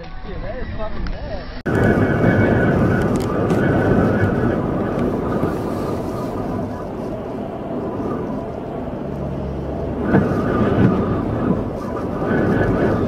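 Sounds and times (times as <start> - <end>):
strong wind buffeting microphone: 1.0 - 13.0.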